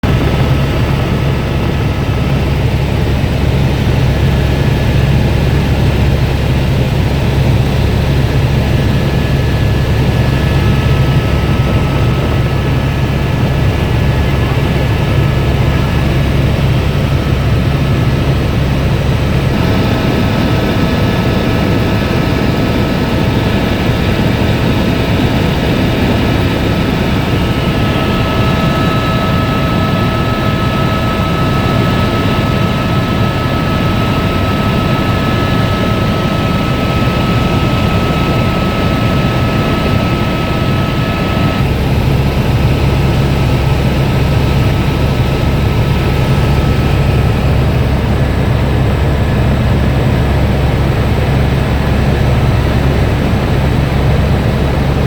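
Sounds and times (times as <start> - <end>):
helicopter flying: 0.0 - 55.0.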